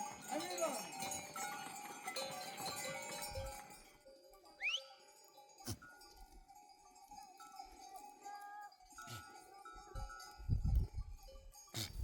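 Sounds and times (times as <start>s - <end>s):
goat bells clinking: 0.0s - 12.0s.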